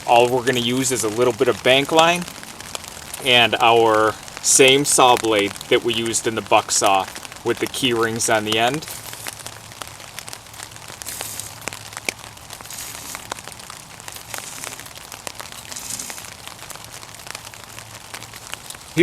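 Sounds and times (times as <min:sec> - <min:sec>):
light rustling and crinkling: 0:00.0 - 0:19.0.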